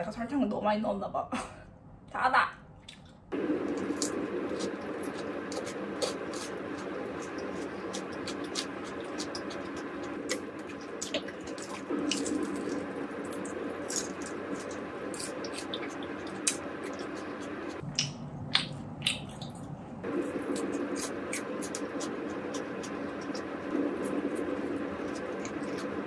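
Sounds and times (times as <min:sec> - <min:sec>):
person chewing food: 0:02.8 - 0:26.0
steady low hum: 0:03.2 - 0:26.0.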